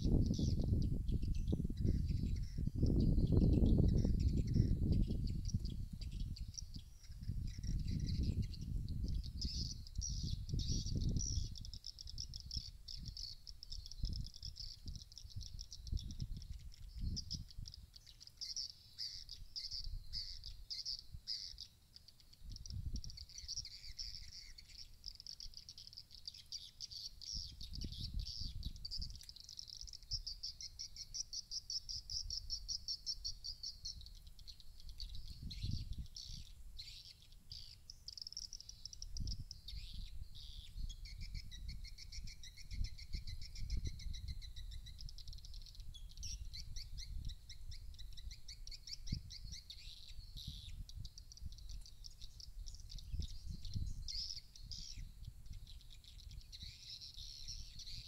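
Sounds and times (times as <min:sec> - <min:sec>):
wind rumbling on microphone: 0:00.0 - 0:18.0, 0:22.4 - 0:24.8, 0:27.2 - 0:29.2, 0:31.6 - 0:37.0, 0:38.9 - 0:58.0
high chirping bird call trills: 0:00.0 - 0:58.0.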